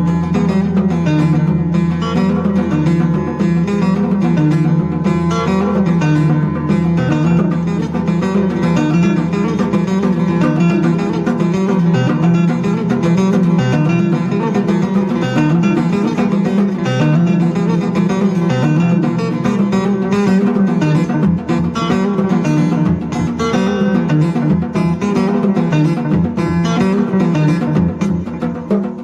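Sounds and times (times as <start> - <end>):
instrumental music with plucked strings: 0.0 - 29.0.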